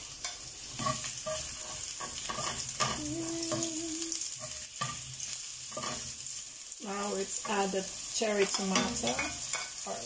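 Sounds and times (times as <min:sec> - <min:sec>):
onion and garlic sizzling in oil: 0:00.0 - 0:10.0
spatula scraping and knocking pan: 0:00.1 - 0:03.7, 0:04.3 - 0:06.4, 0:07.4 - 0:10.0.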